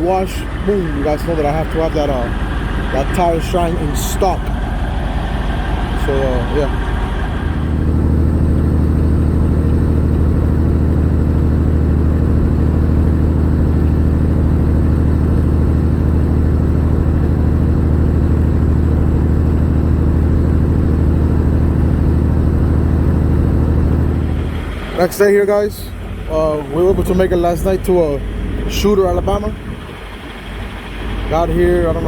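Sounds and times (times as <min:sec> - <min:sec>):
diesel truck engine droning: 0:00.0 - 0:32.0.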